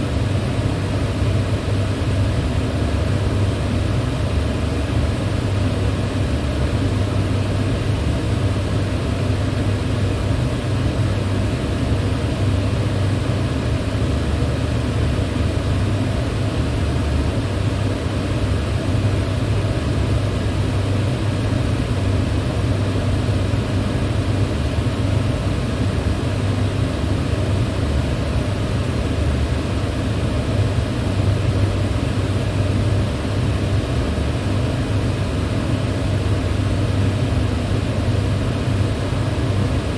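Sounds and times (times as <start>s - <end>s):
electric fan humming: 0.0s - 39.9s.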